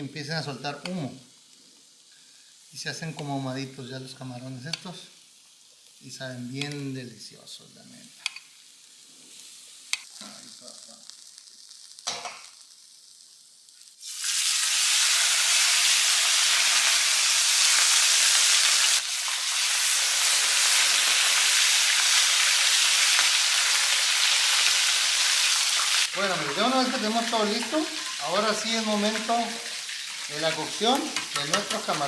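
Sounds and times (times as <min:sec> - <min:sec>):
fish sizzling in hot oil: 0:00.0 - 0:07.0, 0:07.9 - 0:32.0.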